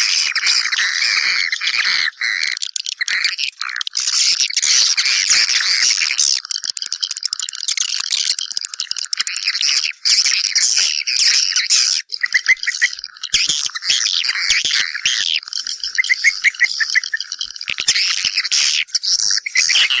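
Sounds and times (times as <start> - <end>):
swiftlets twittering: 3.8 - 20.0.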